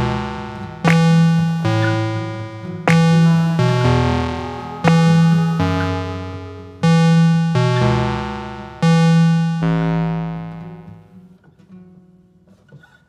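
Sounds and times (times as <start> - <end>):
sustained keyboard chords: 0.0 - 11.1.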